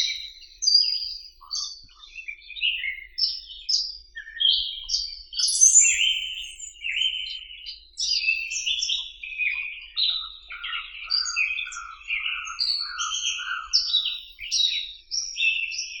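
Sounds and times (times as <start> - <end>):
songbirds chirping and singing: 0.0 - 16.0.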